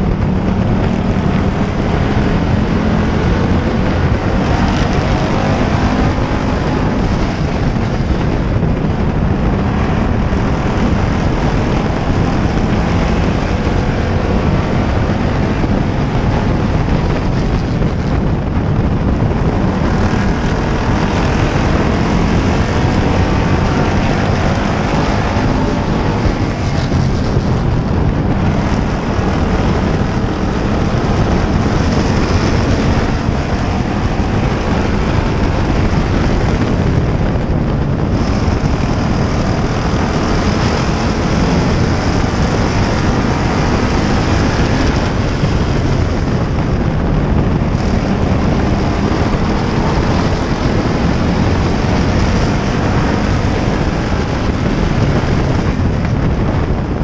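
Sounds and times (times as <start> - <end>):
other race cars passing: 0.0 - 57.0
race car engine racing: 0.0 - 57.0
wind on microphone: 0.0 - 57.0.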